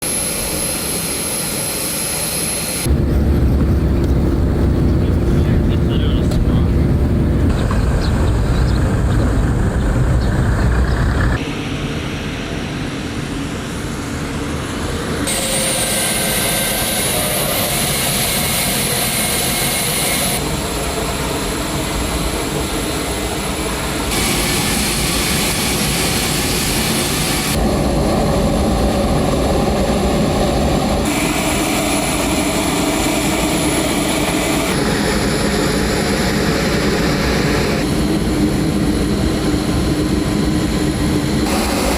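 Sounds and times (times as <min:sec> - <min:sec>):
high propeller whine: 0:00.0 - 0:41.9
turboprop aircraft engines: 0:00.0 - 0:41.9.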